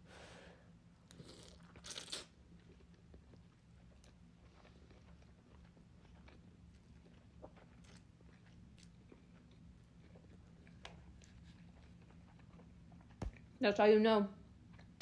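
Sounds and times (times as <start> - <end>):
low steady hum: 0.0 - 15.0
faint chewing of noodles: 1.0 - 13.6.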